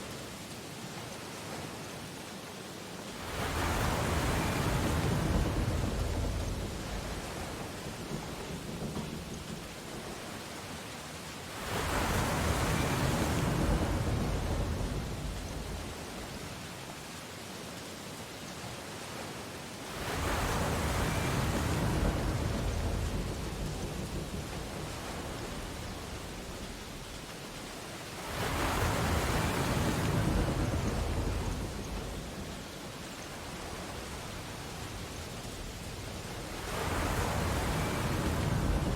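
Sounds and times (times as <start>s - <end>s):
low rumbling wash of surf: 3.0s - 17.3s, 18.5s - 38.9s
ocean wave breaking: 3.2s - 10.6s, 11.5s - 16.6s, 19.9s - 38.9s.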